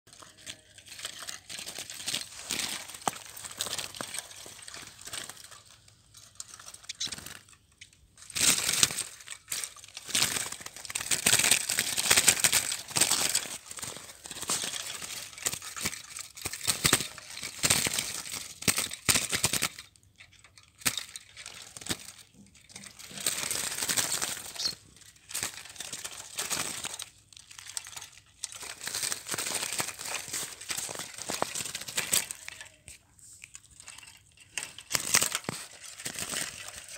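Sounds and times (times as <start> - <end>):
birds fluttering over seed husks: 0.1 - 36.9.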